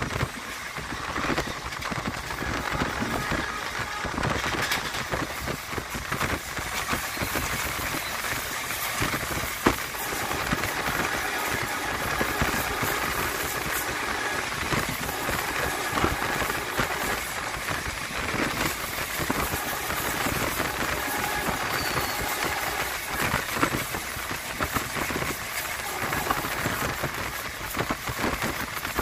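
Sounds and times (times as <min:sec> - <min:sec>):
train rumble and rattle: 0:00.0 - 0:29.0.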